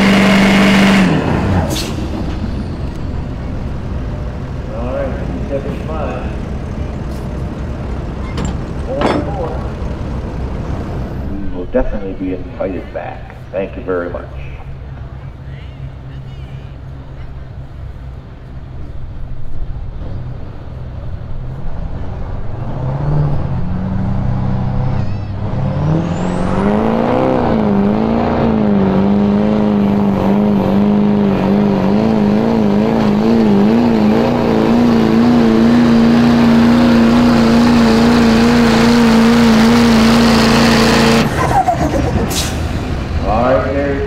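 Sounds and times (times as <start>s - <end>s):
diesel engine at full throttle: 0.0s - 44.0s.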